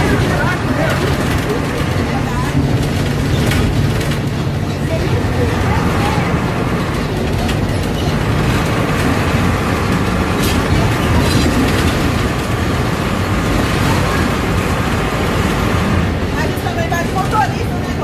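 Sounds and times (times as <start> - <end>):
bus engine running: 0.0 - 18.0
rattle of body and windows: 0.0 - 18.0.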